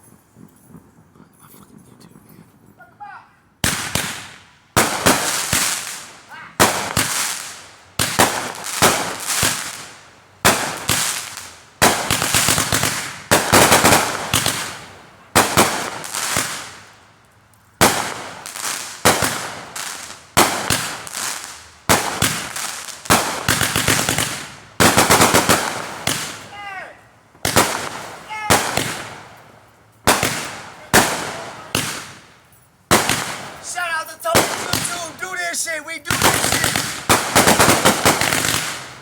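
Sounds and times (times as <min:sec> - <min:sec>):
crackling firework pops: 0:00.0 - 0:01.2, 0:03.6 - 0:26.5, 0:27.3 - 0:35.4, 0:36.1 - 0:39.0
firework bangs: 0:00.0 - 0:01.8, 0:03.5 - 0:17.1, 0:17.8 - 0:39.0.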